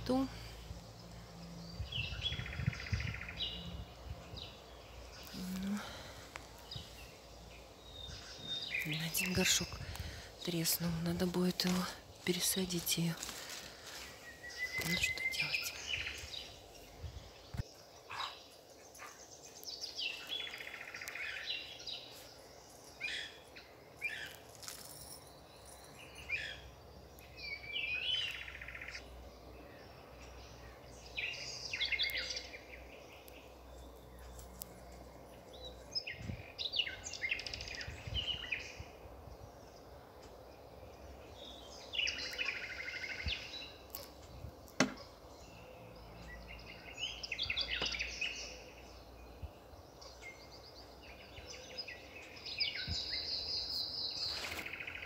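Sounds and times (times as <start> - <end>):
low steady background noise: 0.0 - 55.0
songbirds chirping: 0.0 - 55.0.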